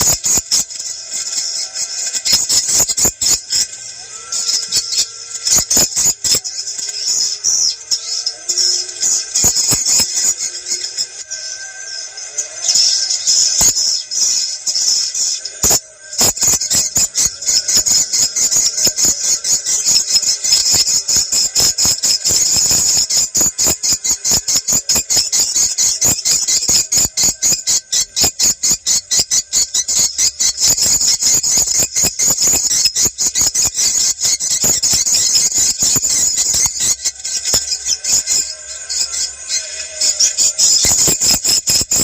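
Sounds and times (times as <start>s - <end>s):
rapid high bird chittering: 0.0s - 42.0s.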